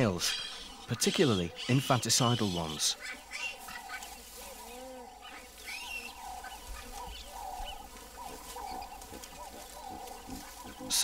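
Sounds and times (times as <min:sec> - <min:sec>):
animal squeaks and coos: 0:00.2 - 0:11.0.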